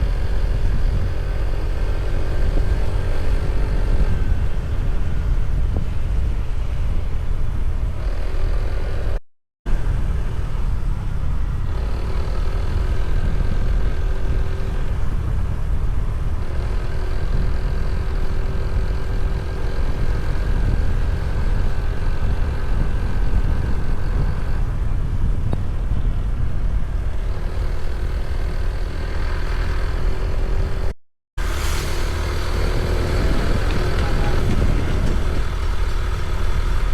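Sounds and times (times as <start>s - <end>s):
vehicle engine hum: 0.0s - 36.9s
wind and road noise rumble: 0.0s - 36.9s.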